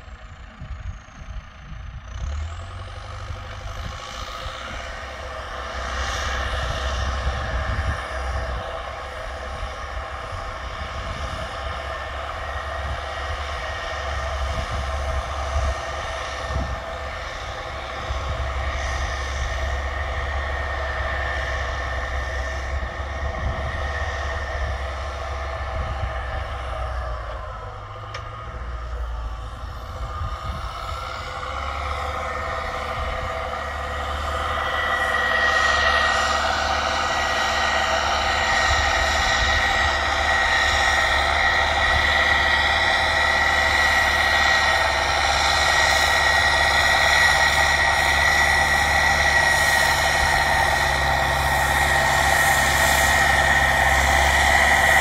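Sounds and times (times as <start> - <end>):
diesel tractor engine under load: 0.0 - 55.0.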